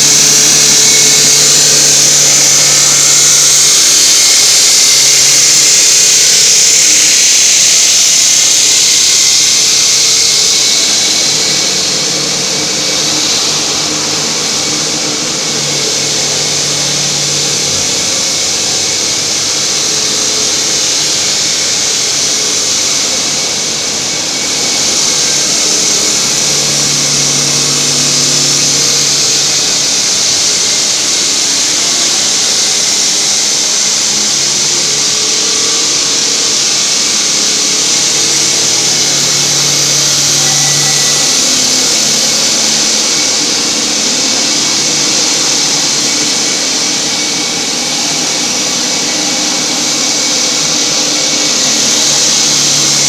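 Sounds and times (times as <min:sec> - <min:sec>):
low motor hum: 0:00.0 - 0:32.3, 0:34.0 - 0:49.8
saw blade grinding concrete: 0:00.0 - 0:53.0.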